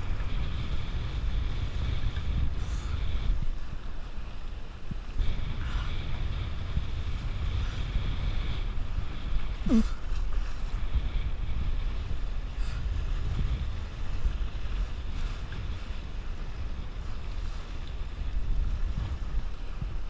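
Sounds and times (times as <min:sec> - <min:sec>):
water rushing along a hull: 0:00.0 - 0:20.0
wind buffeting microphone: 0:00.0 - 0:20.0.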